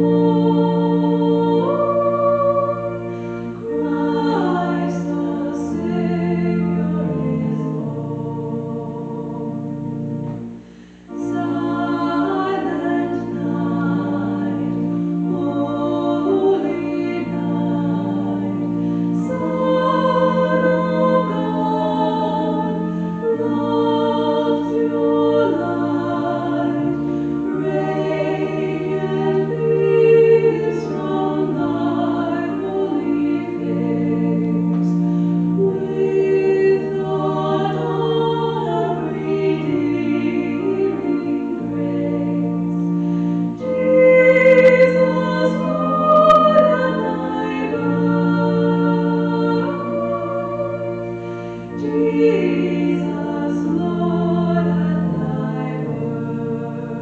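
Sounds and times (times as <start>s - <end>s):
choir singing a hymn: 0.0s - 57.0s
organ accompaniment: 0.0s - 57.0s.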